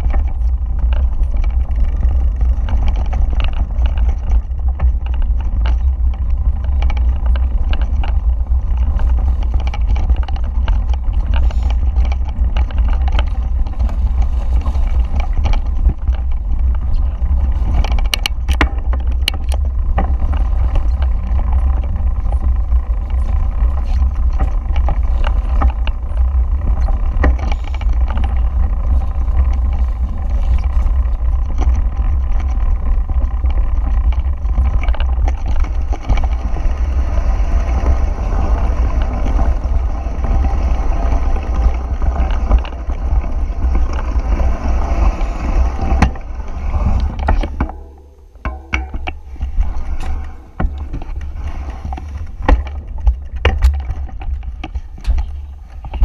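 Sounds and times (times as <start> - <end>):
bike and tyres rattling: 0.0 - 56.0
wind buffeting microphone: 0.0 - 56.0.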